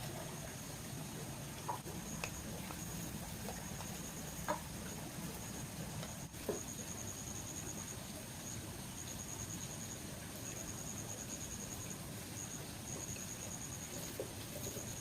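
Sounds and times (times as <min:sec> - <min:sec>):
insects trilling: 0:00.0 - 0:15.0
low outdoor hum: 0:00.0 - 0:15.0.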